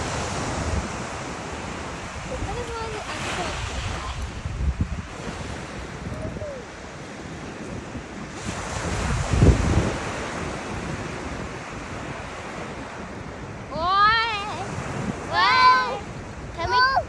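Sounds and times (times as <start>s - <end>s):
ocean surf on beach: 0.0s - 17.0s
wind buffeting microphone: 0.0s - 17.0s.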